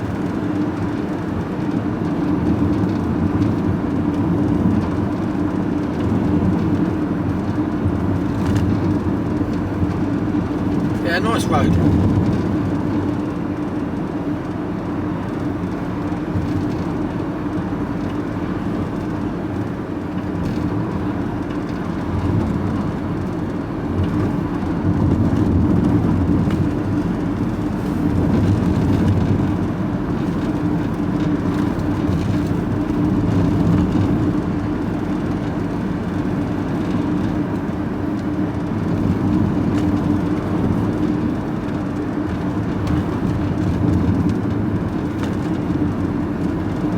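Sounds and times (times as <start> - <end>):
vehicle engine drone and road noise: 0.0 - 46.9.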